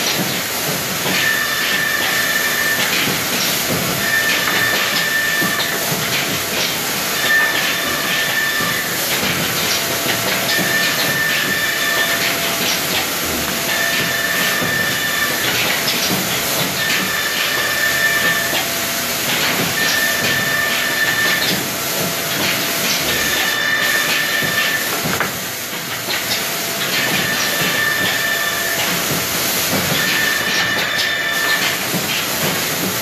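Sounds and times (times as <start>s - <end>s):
pitched machine whine: 0.0s - 32.0s
woodworking machinery hissing: 0.0s - 33.0s.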